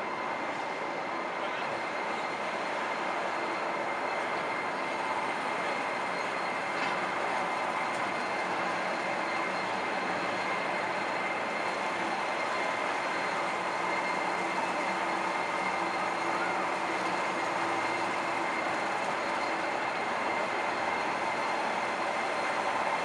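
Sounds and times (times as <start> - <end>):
faint steady tones: 0.0 - 23.0.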